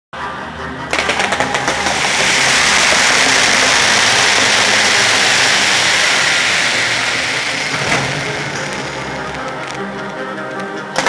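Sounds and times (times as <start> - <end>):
fireworks crackling: 0.9 - 11.0.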